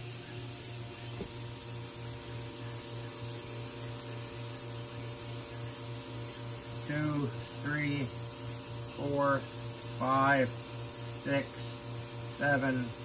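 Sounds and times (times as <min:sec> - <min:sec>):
machine hum with low throb: 0:00.0 - 0:13.0.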